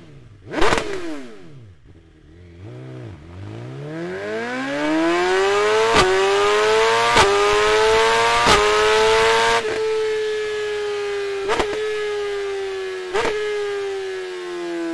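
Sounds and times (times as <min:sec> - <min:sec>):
motorcycle engine revving high: 0:00.0 - 0:14.9.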